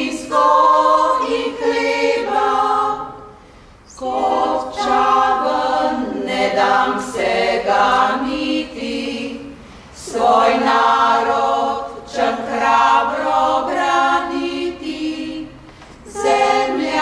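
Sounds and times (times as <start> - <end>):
women's choir singing a cappella: 0.0 - 17.0.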